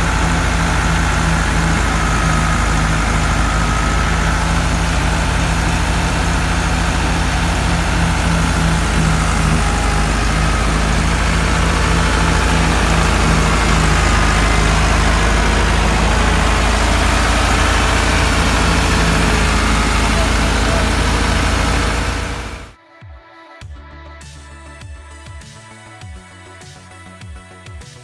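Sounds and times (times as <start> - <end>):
thresher machinery running: 0.0 - 22.8
tractor diesel engine running: 0.0 - 22.8.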